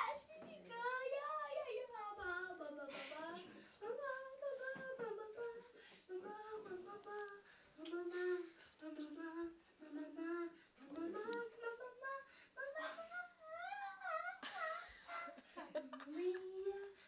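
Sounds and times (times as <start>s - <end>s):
young boy singing: 0.0s - 17.0s.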